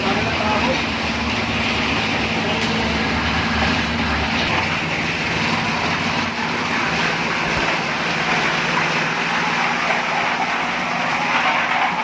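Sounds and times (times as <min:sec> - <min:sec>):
concrete mixer running: 0:00.0 - 0:12.0.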